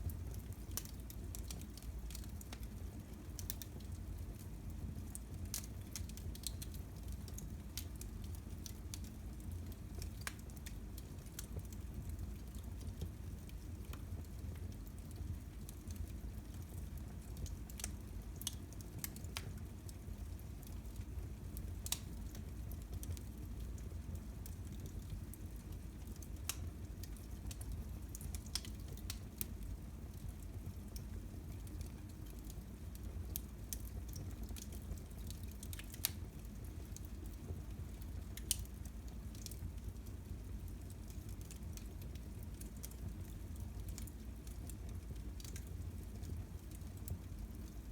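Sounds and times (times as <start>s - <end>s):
fire popping and snapping: 0.0s - 47.9s
rumble of flames: 0.0s - 47.9s.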